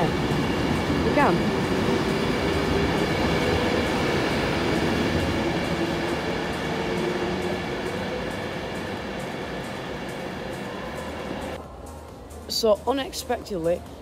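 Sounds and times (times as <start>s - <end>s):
train wheels rumbling on rail: 0.0s - 11.6s
train whining tones: 0.0s - 11.6s.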